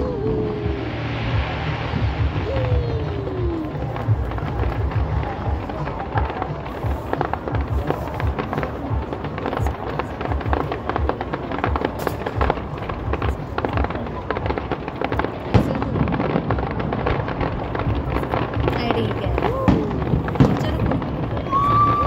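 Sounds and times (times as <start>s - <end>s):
fireworks popping and banging: 0.0s - 22.0s.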